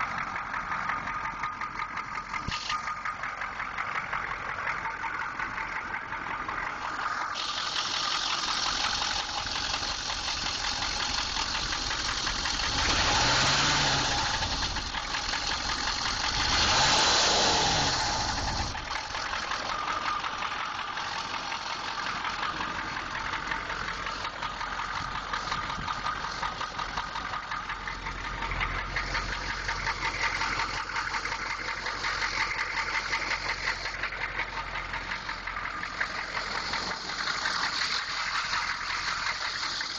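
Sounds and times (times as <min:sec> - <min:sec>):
engine idling with rapid knock: 0:00.0 - 0:39.9
engine revving: 0:02.4 - 0:39.9.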